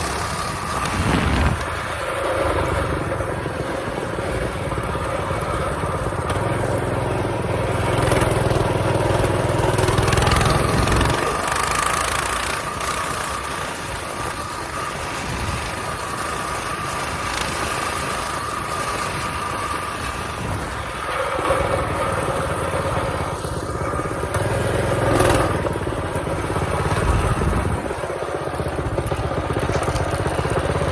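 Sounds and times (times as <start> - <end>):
small bike engine running: 0.0 - 30.9.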